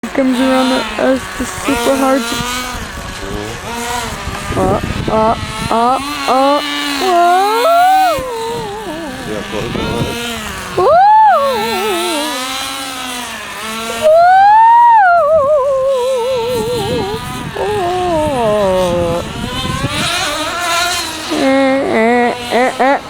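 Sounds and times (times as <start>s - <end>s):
rc truck engine revving: 0.0s - 23.0s.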